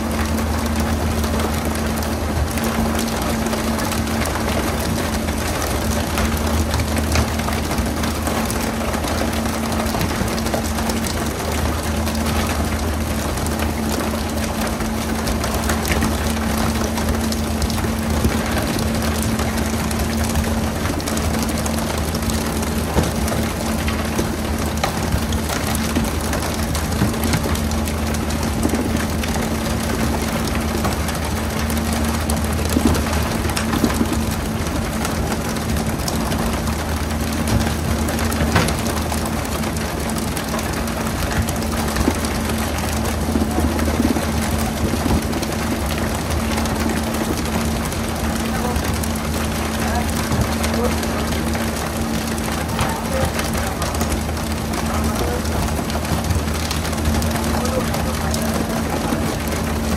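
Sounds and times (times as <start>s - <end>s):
boat engine running: 0.0s - 59.9s
water spraying and splashing: 0.0s - 59.9s.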